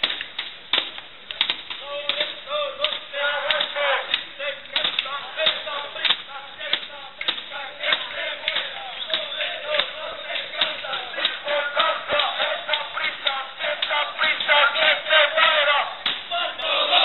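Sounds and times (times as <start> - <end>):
crowd shouting and chanting: 1.7 - 17.0.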